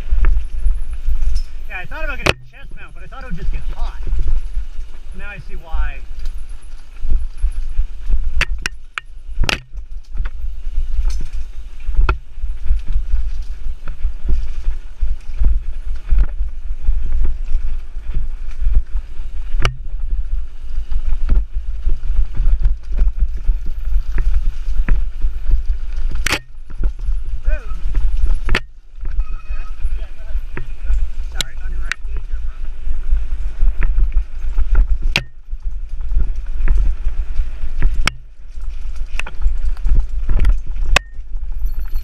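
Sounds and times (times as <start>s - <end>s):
bike knocking and rattling: 0.0s - 42.0s
mountain bike rumbling on dirt: 0.0s - 42.0s.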